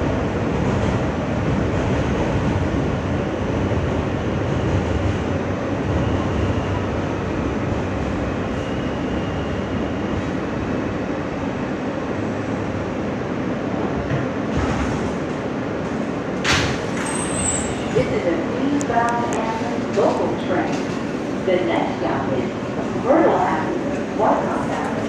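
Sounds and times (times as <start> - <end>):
subway car rumble and hiss: 0.0 - 25.0.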